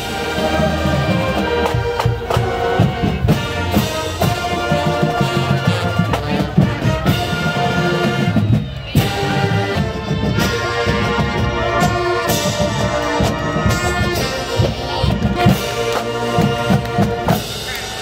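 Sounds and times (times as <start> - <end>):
brass sustained chords: 0.0 - 17.8.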